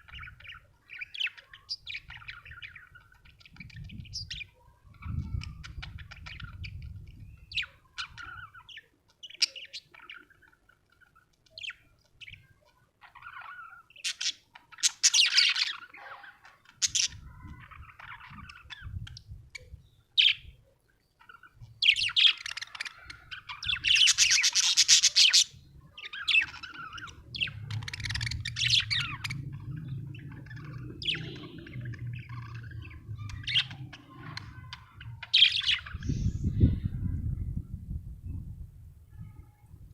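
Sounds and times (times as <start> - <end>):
budgerigar chirping and warbling: 0.0 - 20.6, 21.2 - 36.3.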